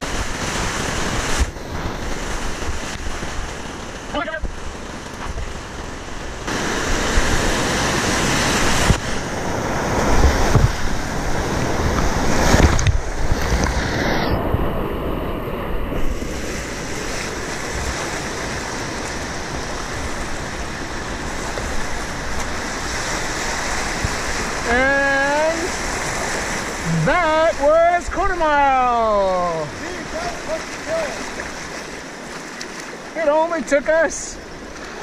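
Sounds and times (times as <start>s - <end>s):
waves breaking over boat: 0.0s - 35.0s
whitewater rushing and splashing: 0.0s - 35.0s.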